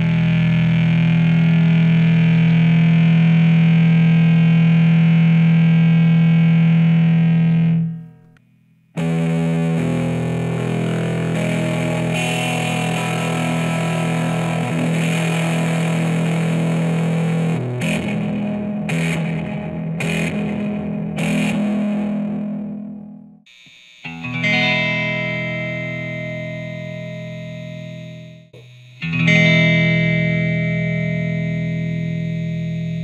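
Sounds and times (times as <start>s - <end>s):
fuzz electric guitar: 0.0s - 8.2s, 9.0s - 23.4s, 24.0s - 33.0s.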